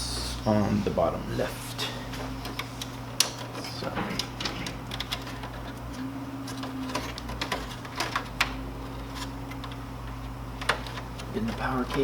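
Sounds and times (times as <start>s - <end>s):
steady low hum: 0.0s - 12.0s
clicks of handling cable connectors: 2.2s - 12.0s.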